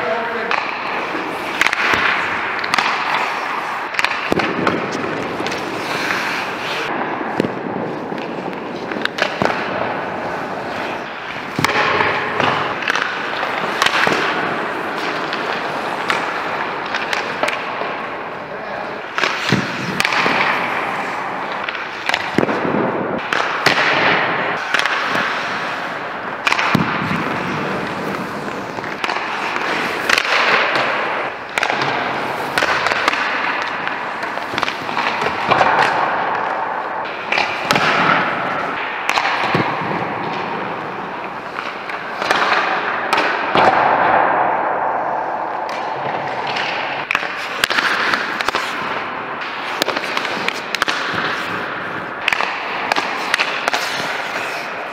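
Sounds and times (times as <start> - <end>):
hockey sticks striking pucks: 0.0 - 54.9
skates scraping on ice: 0.0 - 54.9
pucks smacking off boards: 0.4 - 18.2, 18.9 - 44.8, 45.5 - 54.9.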